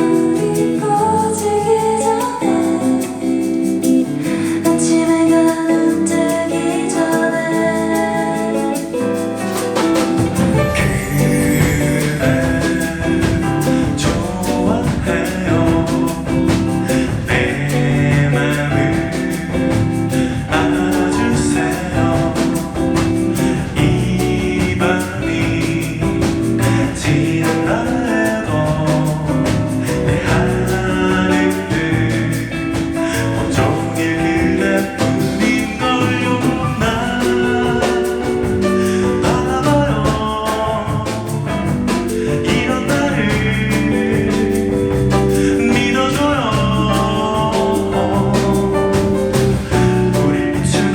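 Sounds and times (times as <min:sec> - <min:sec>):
guitar: 0:00.0 - 0:50.9
person singing: 0:00.0 - 0:50.9
drum beat: 0:09.3 - 0:50.9.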